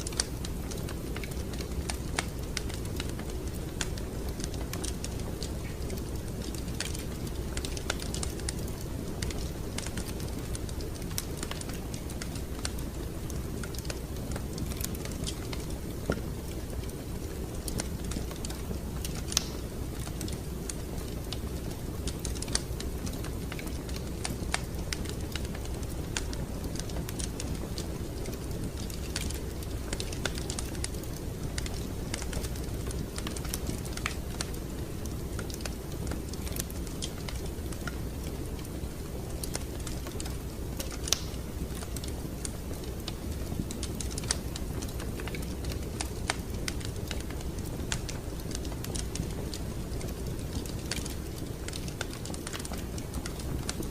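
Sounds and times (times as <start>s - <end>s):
low rumble of burning fire: 0.0s - 53.9s
wood fire crackling and popping: 0.0s - 53.9s.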